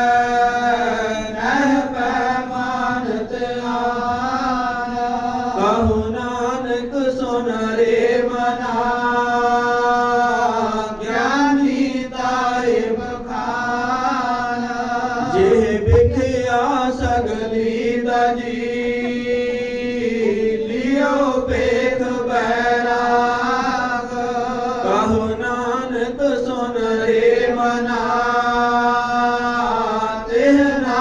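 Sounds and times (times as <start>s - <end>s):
person chanting slow melody: 0.0s - 31.0s.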